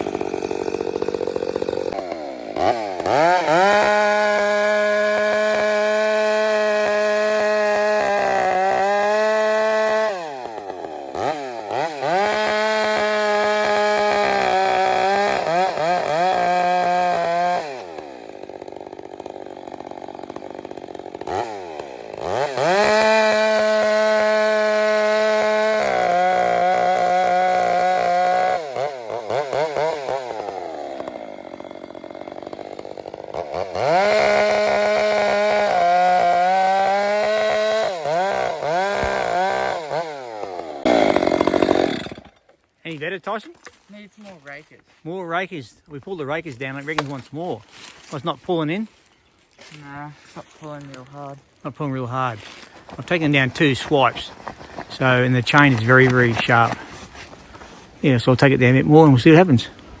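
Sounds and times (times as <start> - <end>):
chainsaw revving and cutting: 0.0 - 60.0.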